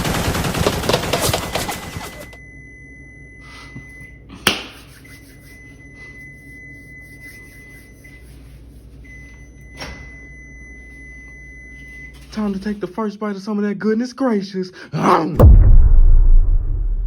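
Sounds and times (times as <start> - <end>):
microwave oven humming: 0.0 - 14.6.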